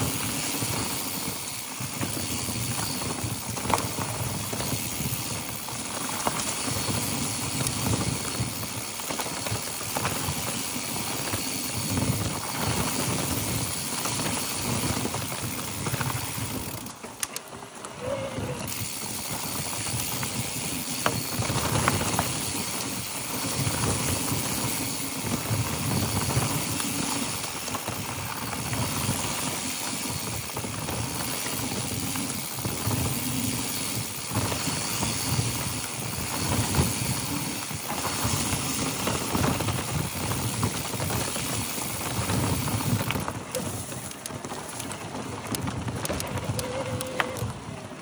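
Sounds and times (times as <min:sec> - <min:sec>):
bike rattling and clicking: 0:00.0 - 0:48.0.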